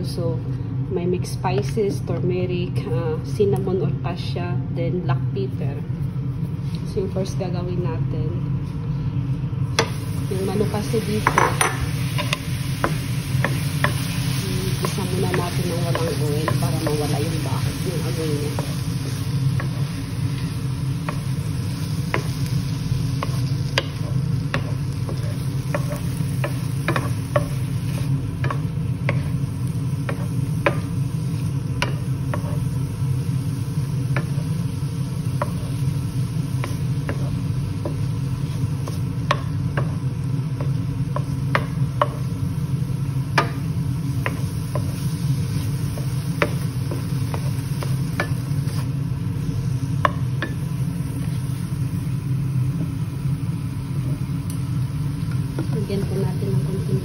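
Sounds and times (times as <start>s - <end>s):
faint sizzle: 0.0s - 57.0s
steady low hum: 0.0s - 57.0s.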